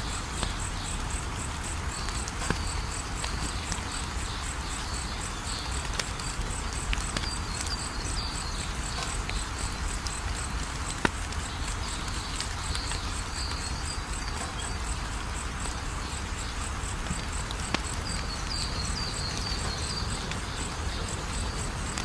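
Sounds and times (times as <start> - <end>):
crickets chirping: 0.0 - 22.0
wood fire crackling and popping: 0.1 - 22.0.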